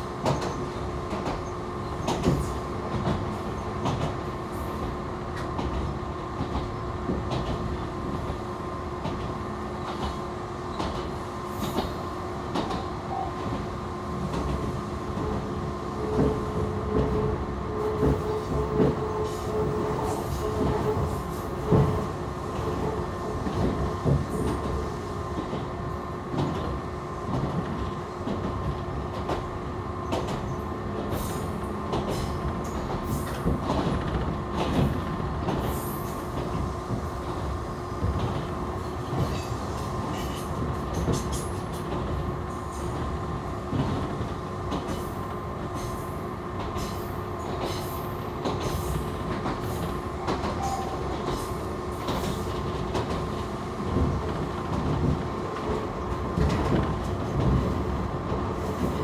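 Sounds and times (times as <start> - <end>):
constant train whine: 0.0 - 59.0
train wheels rumbling on rail: 0.0 - 59.0.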